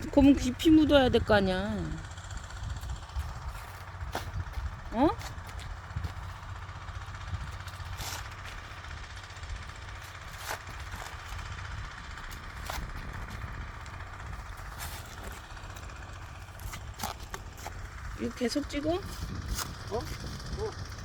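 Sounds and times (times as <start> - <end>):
mini excavator engine running: 0.0 - 21.0.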